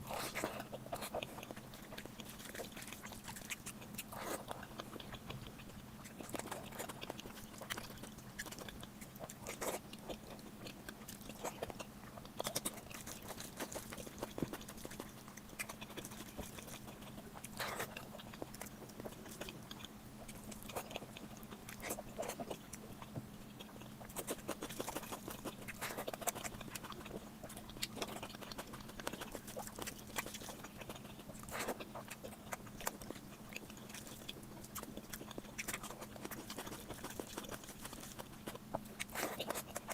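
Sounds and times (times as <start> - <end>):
faint low hum: 0.0 - 39.9
person chewing food: 0.0 - 39.9.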